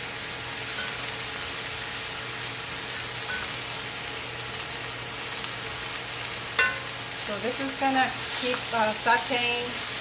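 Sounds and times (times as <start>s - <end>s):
food sizzling in a hot pan: 0.0s - 10.0s.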